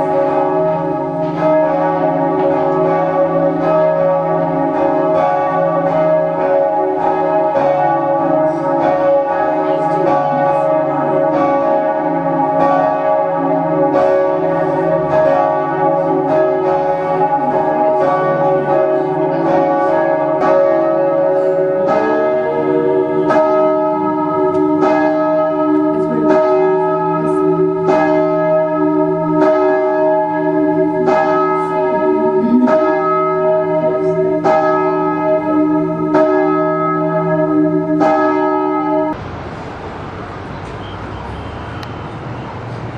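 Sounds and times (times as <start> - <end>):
tower bells pealing: 0.0 - 39.2.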